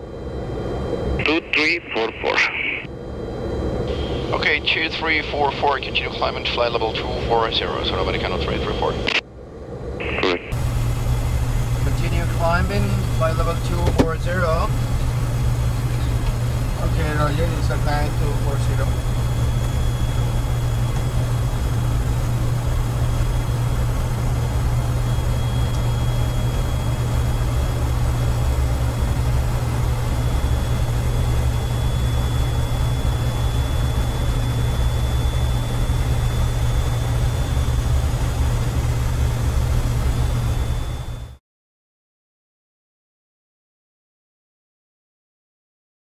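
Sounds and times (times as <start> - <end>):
cockpit drone of airflow and engines: 0.0 - 41.4
faint high-pitched whine: 0.1 - 9.2, 10.0 - 41.4.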